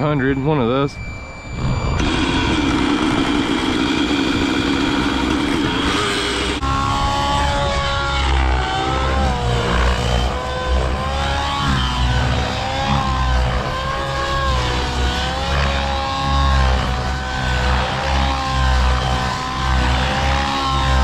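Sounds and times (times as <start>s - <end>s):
radio-controlled helicopter motor whine: 0.0s - 21.0s.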